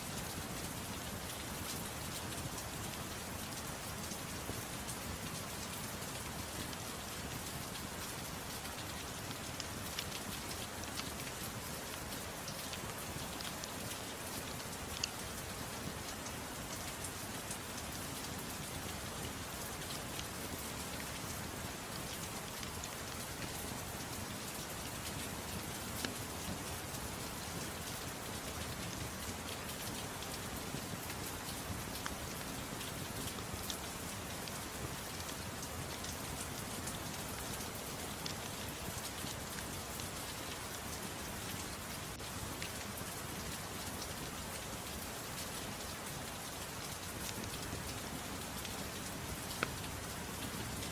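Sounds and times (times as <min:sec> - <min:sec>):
soft rain falling: 0:00.0 - 0:50.9.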